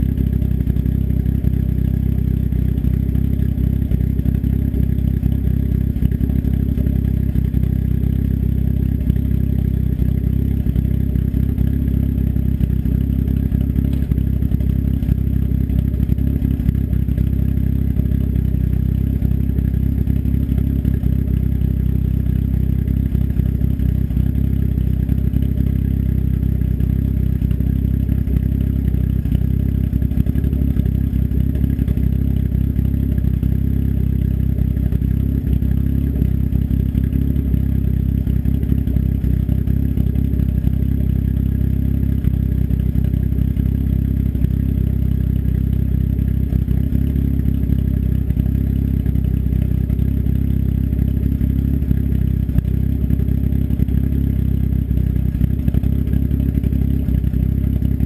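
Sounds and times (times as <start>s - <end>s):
engine idling without muffler: 0.0s - 58.0s.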